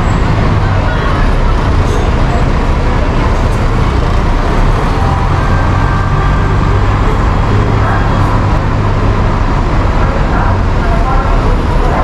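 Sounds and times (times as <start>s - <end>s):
bus engine running: 0.0s - 12.0s
street traffic noise: 0.0s - 12.0s.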